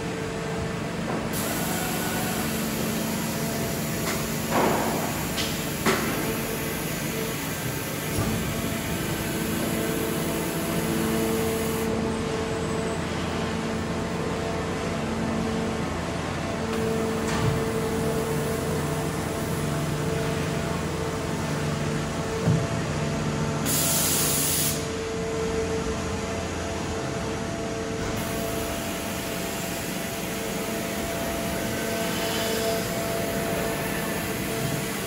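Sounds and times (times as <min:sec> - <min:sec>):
factory machinery humming: 0:00.0 - 0:35.0.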